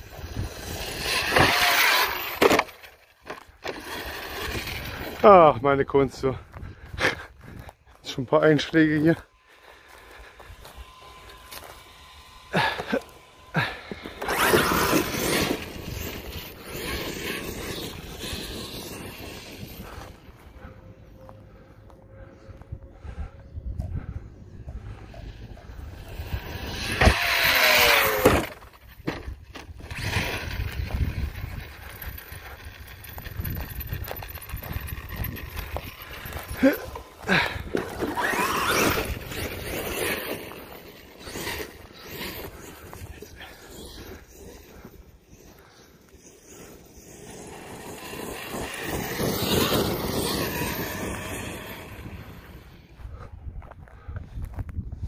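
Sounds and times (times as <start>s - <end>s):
electric motor whining: 0.0s - 5.6s, 8.6s - 53.2s
toy truck driving over grass: 0.0s - 23.2s, 24.0s - 53.3s.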